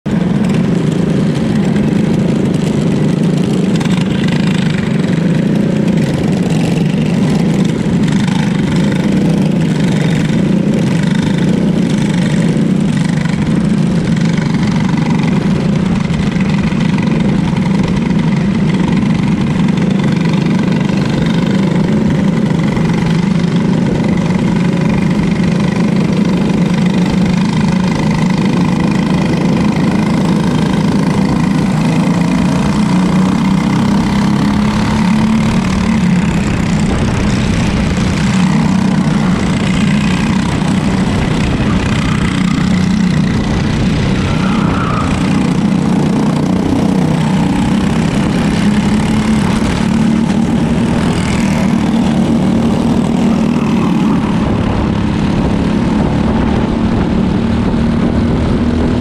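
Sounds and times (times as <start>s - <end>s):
kart engine running: 0.0s - 59.0s.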